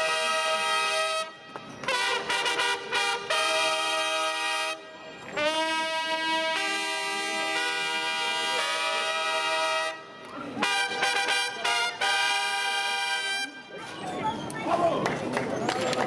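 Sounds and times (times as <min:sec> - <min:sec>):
brass band playing: 0:00.0 - 0:13.7.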